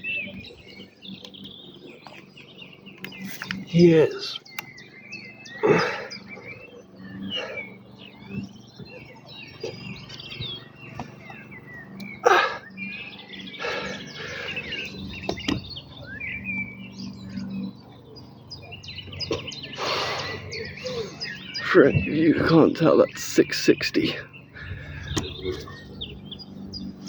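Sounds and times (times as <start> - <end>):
songbirds chirping and singing: 0.0 - 27.0.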